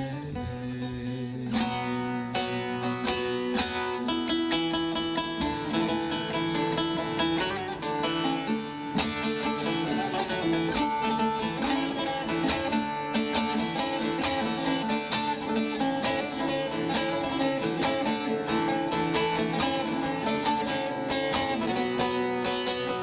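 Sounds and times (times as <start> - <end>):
plucked string instrument: 0.0 - 23.0.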